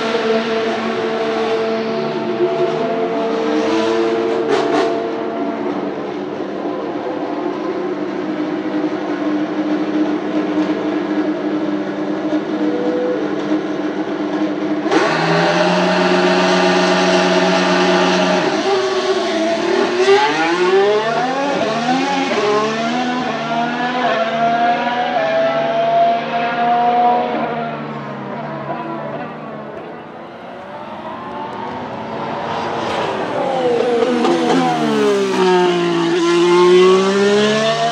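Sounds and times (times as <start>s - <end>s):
car accelerating through upshifts: 0.0s - 37.9s
race car engine revving: 0.0s - 37.9s.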